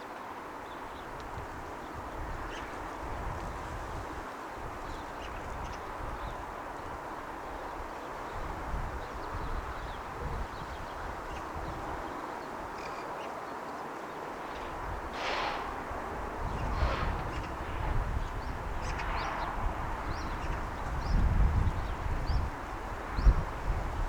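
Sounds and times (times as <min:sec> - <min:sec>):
wind rumble on microphone: 0:00.7 - 0:12.9, 0:14.2 - 0:24.0.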